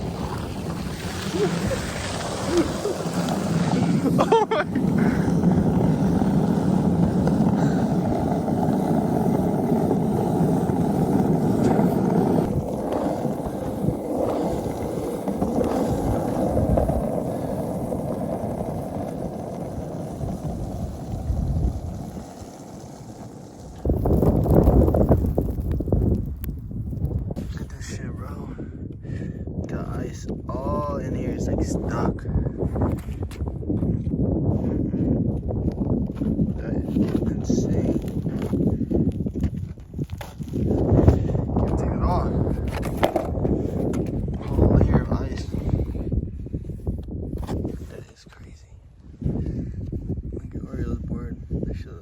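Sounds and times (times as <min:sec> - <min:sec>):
skateboard wheels rolling on snow: 0:00.0 - 0:52.0.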